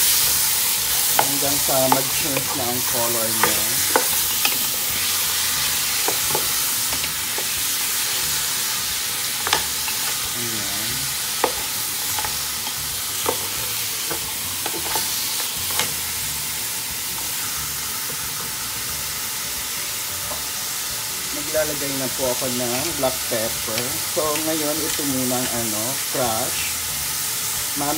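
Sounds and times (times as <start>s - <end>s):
meat sizzling in hot oil: 0.0s - 27.9s.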